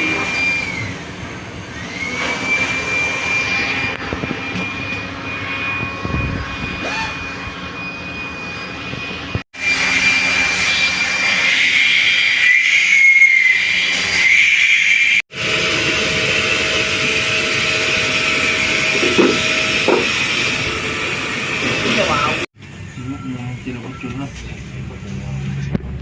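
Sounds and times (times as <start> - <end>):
machine running: 0.0 - 23.0
high-pitched mechanical whine: 0.0 - 26.0.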